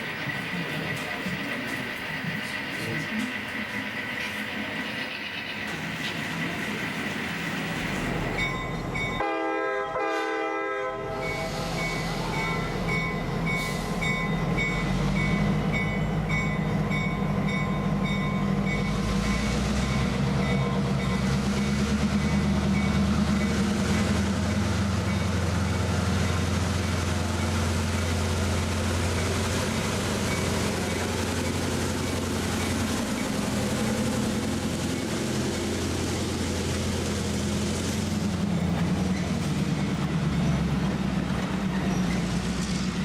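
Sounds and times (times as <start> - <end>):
diesel locomotive engine drone: 0.0 - 43.0.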